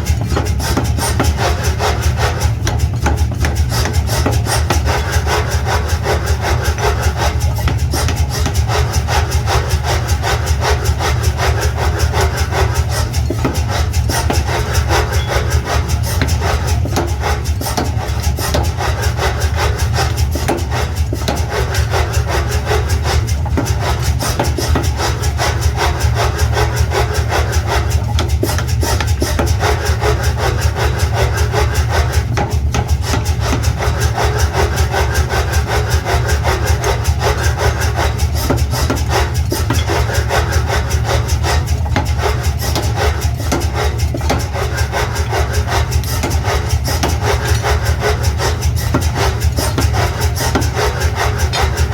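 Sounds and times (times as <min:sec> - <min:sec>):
metalworking machine rasping clatter: 0:00.0 - 0:51.9.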